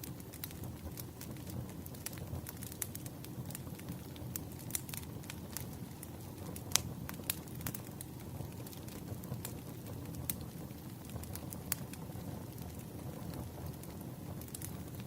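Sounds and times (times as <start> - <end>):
burning wood crackling and popping: 0.0 - 15.0
campfire burning: 0.0 - 15.0.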